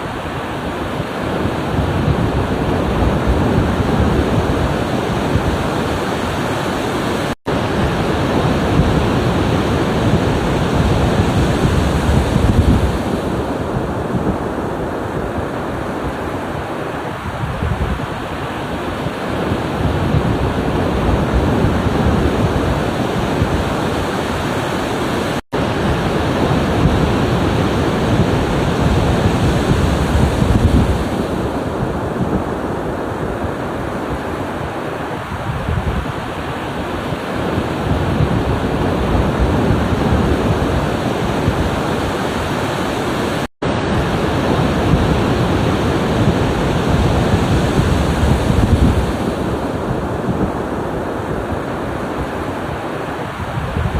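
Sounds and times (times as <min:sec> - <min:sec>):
ocean surf washing on shore: 0:00.0 - 0:53.9.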